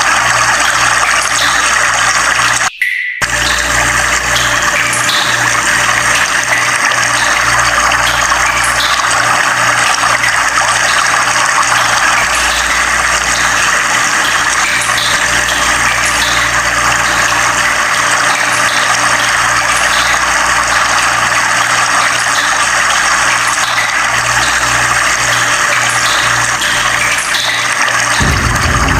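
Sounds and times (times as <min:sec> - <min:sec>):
water rushing: 0:00.0 - 0:28.9.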